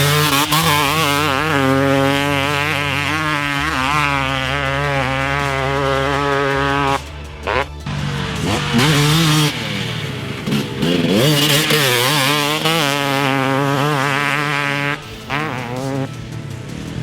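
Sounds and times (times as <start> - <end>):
two-stroke dirt bike revving: 0.0 - 17.0.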